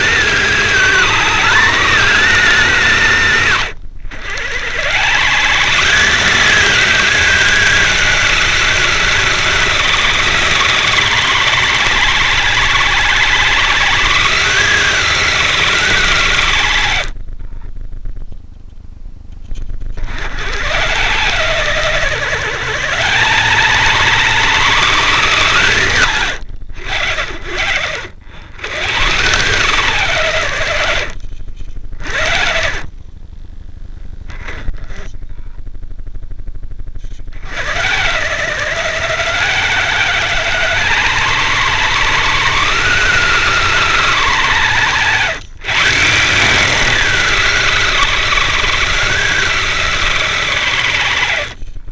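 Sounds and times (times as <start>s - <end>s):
toy electric motor whining: 0.0s - 17.2s, 20.0s - 33.0s, 34.2s - 35.2s, 37.0s - 51.9s.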